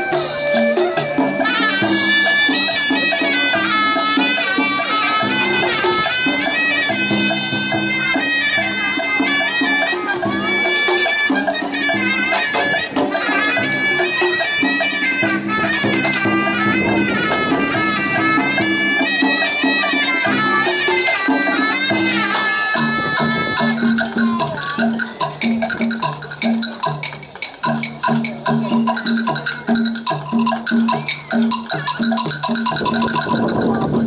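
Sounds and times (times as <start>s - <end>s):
fast percussion rhythm: 0.0s - 34.0s
high melody: 0.0s - 34.0s.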